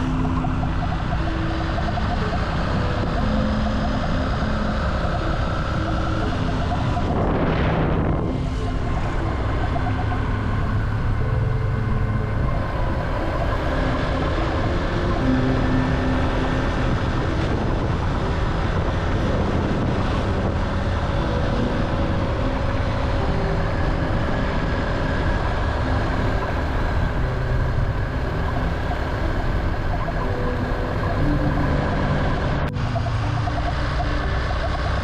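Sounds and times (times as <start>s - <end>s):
vehicle engine and road noise: 0.0s - 35.0s.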